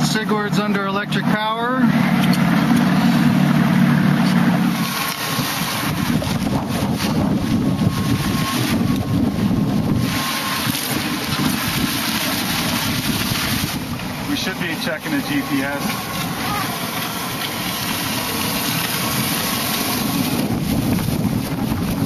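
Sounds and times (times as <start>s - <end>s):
motorboat motor hum: 0.0s - 22.0s
water rushing past: 0.0s - 22.0s
wind buffeting microphone: 2.2s - 22.0s.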